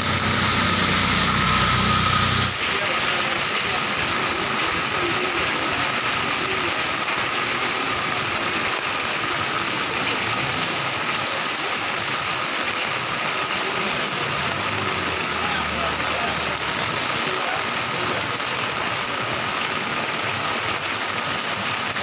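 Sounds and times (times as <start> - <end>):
heavy rain on flooded street: 0.0 - 22.0.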